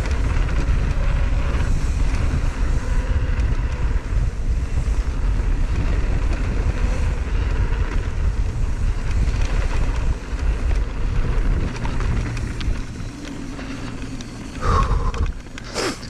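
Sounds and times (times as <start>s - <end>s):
bike rattles and clicks: 0.0s - 16.0s
tyres rumbling on dirt trail: 0.0s - 16.0s
wind buffeting microphone: 0.0s - 16.0s.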